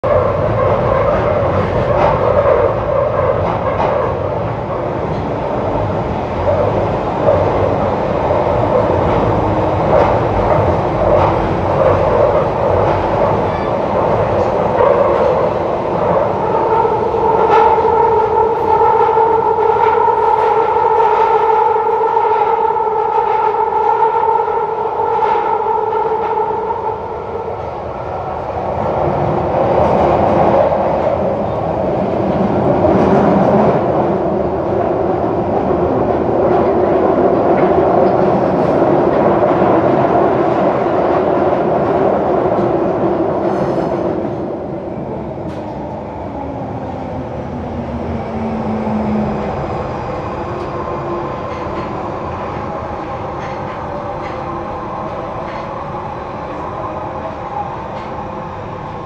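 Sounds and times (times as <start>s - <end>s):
train rumbling through tunnel: 0.0s - 59.0s.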